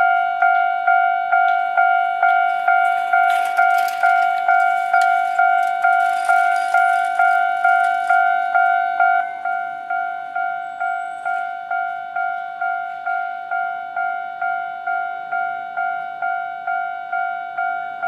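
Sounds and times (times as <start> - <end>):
level crossing bell ringing: 0.0 - 18.0.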